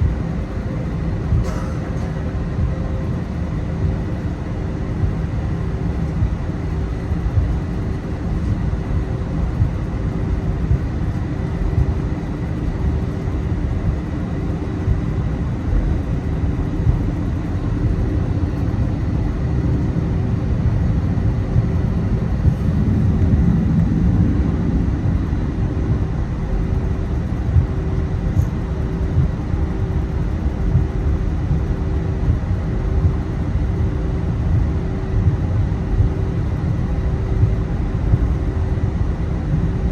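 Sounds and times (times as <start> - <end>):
airliner cabin rumble: 0.0 - 39.9
faint even hum: 0.0 - 39.9.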